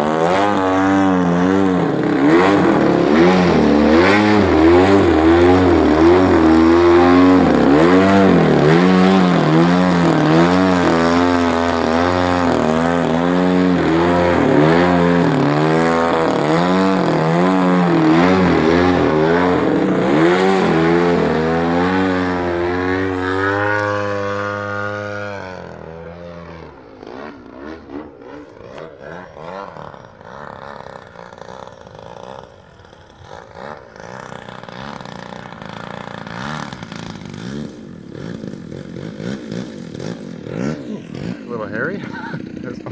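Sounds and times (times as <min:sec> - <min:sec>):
model plane engine revving: 0:00.0 - 0:42.9.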